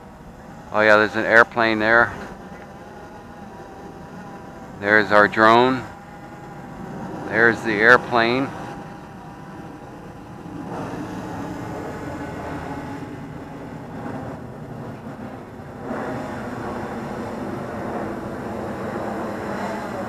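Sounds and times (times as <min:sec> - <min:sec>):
drone propellers humming: 0:00.0 - 0:20.0.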